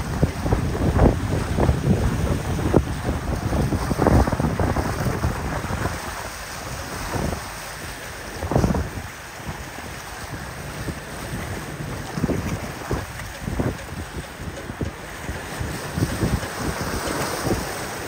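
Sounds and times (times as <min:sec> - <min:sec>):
waves washing: 0:00.0 - 0:18.0
wind buffeting microphone: 0:00.0 - 0:18.0.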